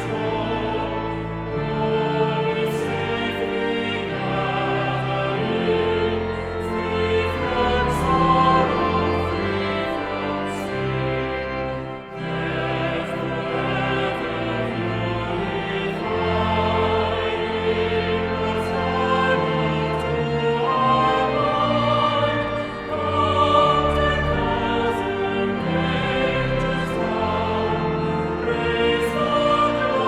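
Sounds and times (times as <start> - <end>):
choir singing slow piece: 0.0 - 30.0.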